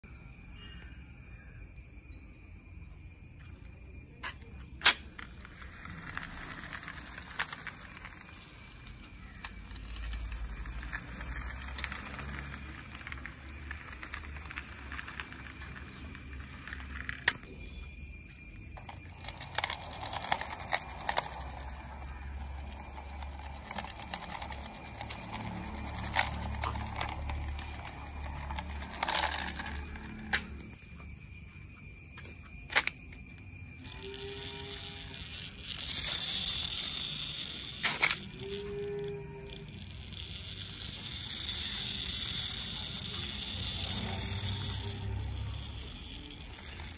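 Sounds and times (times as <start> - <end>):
high-pitched whine: 0.0 - 46.9
toy vehicles scraping on concrete: 3.3 - 46.9.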